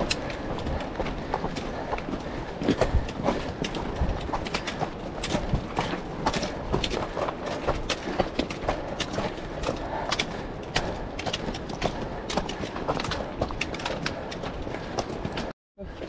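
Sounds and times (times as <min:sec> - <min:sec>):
rapid clicking and knocking: 0:00.0 - 0:15.5.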